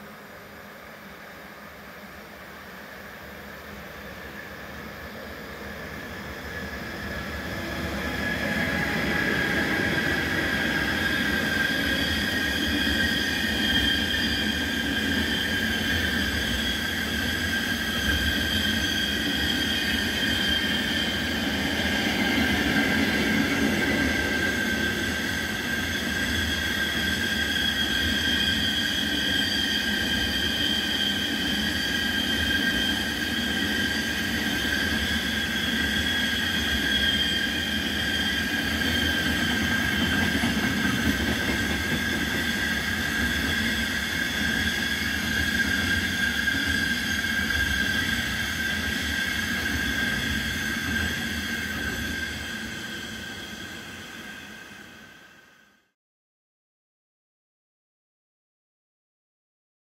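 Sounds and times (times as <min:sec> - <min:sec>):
rail grinding machine whine: 0:00.0 - 0:55.9.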